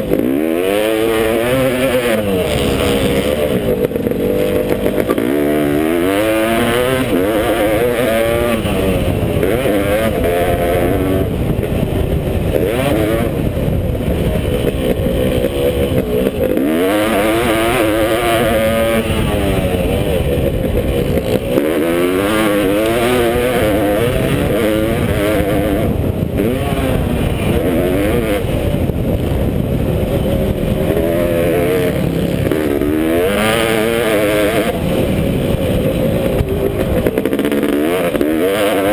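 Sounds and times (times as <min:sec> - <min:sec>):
motocross engine revving hard: 0:00.0 - 0:38.9.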